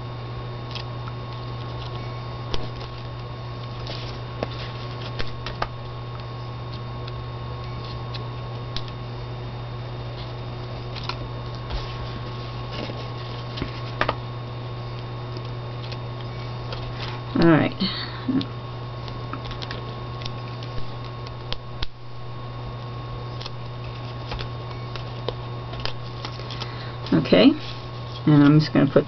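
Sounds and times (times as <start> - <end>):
steady low hum: 0.0 - 29.0
paper and card handling clicks: 0.6 - 9.0, 10.2 - 14.2, 14.9 - 17.5, 18.3 - 22.0, 22.8 - 29.0.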